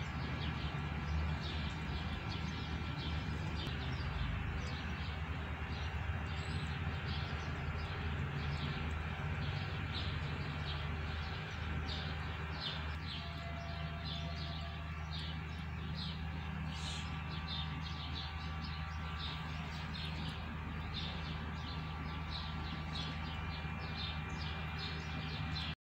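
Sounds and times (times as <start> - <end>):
small birds chirping: 0.0 - 25.8
steady low hum: 0.0 - 25.8.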